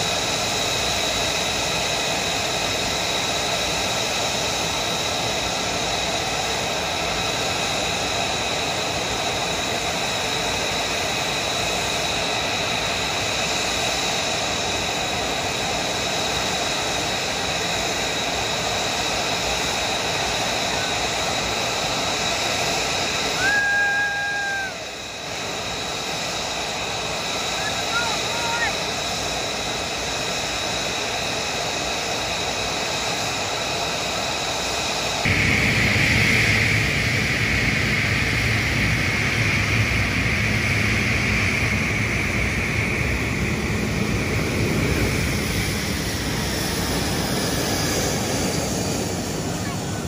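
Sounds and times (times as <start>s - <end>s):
jet engine idling: 0.0s - 50.0s.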